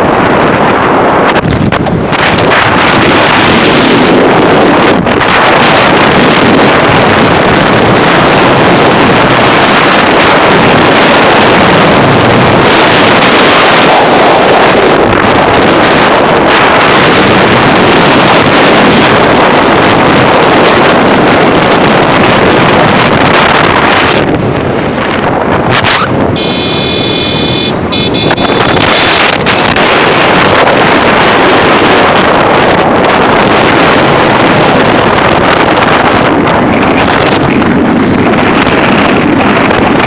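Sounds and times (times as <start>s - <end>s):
motorcycle engine: 0.0s - 40.0s
road noise: 0.0s - 40.0s
wind buffeting microphone: 0.0s - 40.0s.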